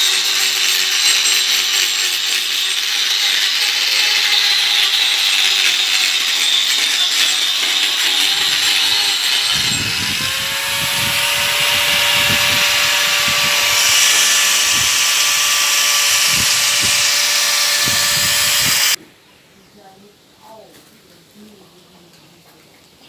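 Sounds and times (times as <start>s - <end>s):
power tool grinding wood: 0.0s - 19.0s.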